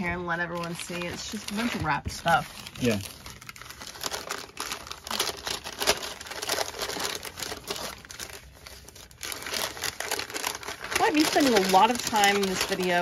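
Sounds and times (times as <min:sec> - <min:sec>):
newspaper crinkling: 0:00.3 - 0:13.0.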